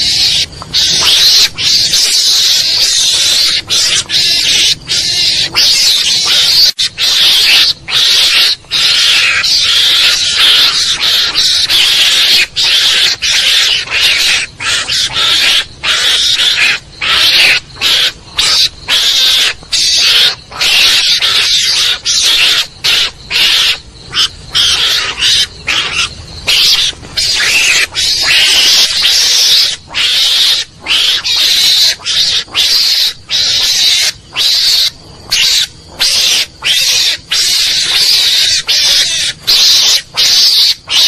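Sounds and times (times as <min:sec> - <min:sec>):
harsh hissy screeching calls: 0:00.0 - 0:41.0.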